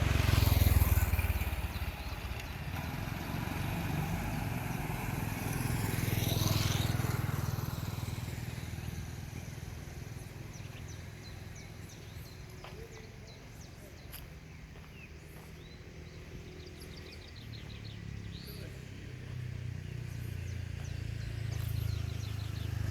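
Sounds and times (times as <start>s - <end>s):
vehicles driving past: 0.0s - 22.9s.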